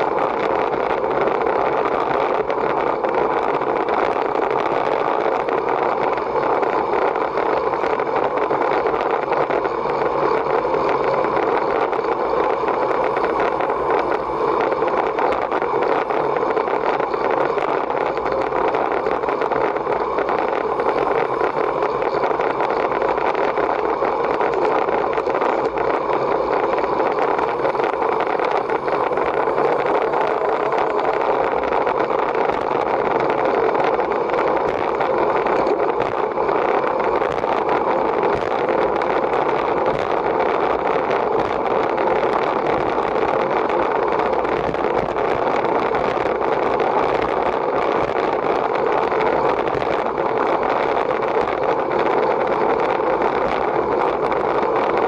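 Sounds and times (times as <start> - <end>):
bicycle tyre noise: 0.0 - 55.0
wind rushing: 0.0 - 55.0.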